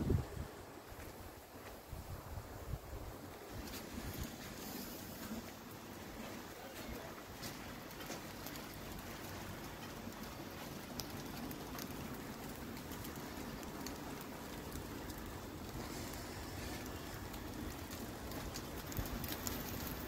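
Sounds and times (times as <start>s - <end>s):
light rain hissing: 0.0s - 20.0s
raindrops ticking: 3.4s - 20.0s.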